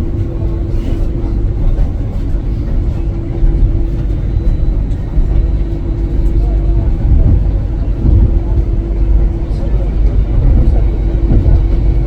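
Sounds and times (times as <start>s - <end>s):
constant hum: 0.0s - 12.0s
electric train rumbling: 0.0s - 12.0s.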